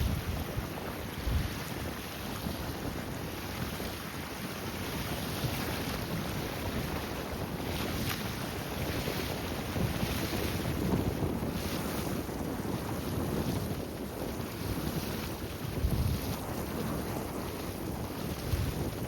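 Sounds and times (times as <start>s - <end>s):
wind buffeting microphone: 0.0s - 19.0s
wind-driven waves rushing: 0.0s - 19.0s.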